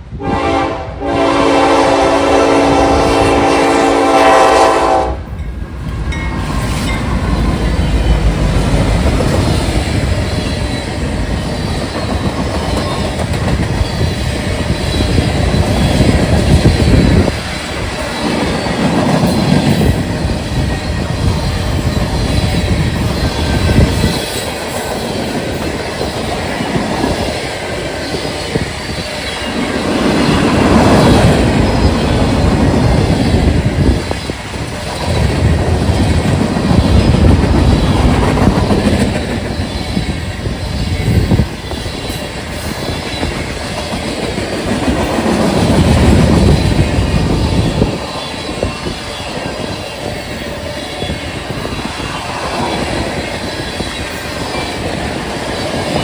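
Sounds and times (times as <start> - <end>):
train wheel squeal: 1.2 - 56.0
train wheels clattering: 2.8 - 56.0.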